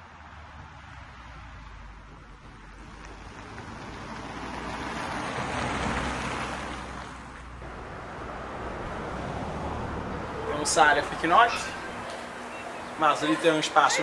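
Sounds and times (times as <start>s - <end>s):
vehicle passing: 0.2s - 14.0s.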